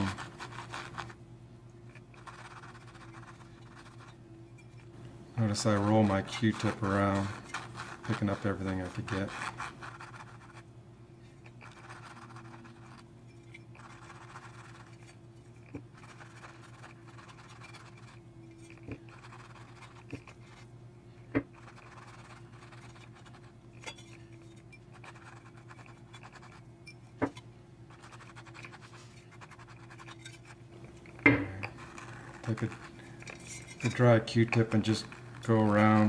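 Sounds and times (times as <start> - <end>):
cotton swab scrubbing speaker rim: 0.0 - 1.2, 1.9 - 20.7, 21.4 - 26.7, 27.3 - 36.0
steady hum: 0.0 - 36.0.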